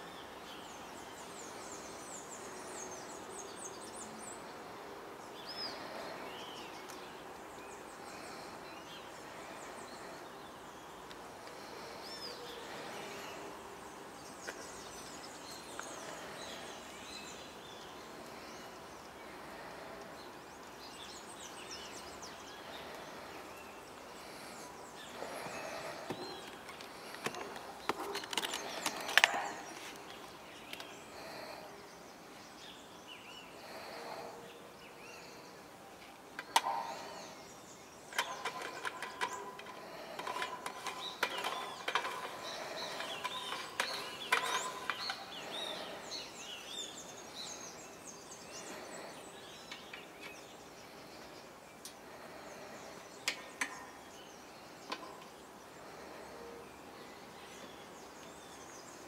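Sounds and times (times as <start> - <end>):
songbirds chirping: 0.0 - 59.0
steady background hiss: 0.0 - 59.0.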